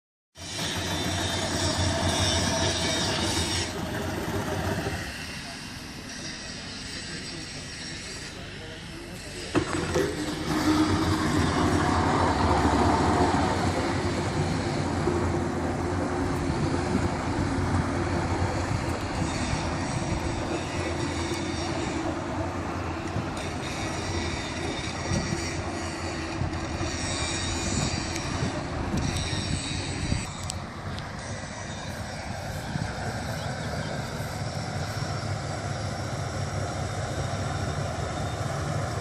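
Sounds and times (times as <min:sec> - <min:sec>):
wheel noise: 0:00.4 - 0:05.6, 0:09.5 - 0:39.0
train rumbling on rails: 0:00.4 - 0:39.0.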